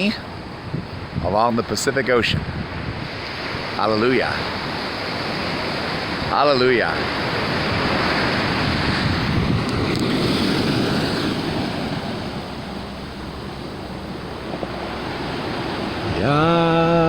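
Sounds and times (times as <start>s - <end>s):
surf crashing on shore: 0.0s - 17.0s
wind on microphone: 0.0s - 17.0s.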